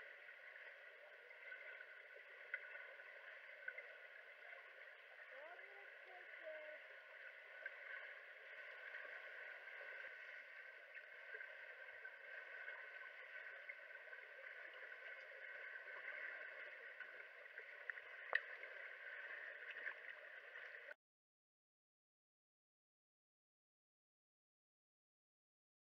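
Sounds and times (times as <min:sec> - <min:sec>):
underwater rushing and bubbling: 0:00.0 - 0:21.0.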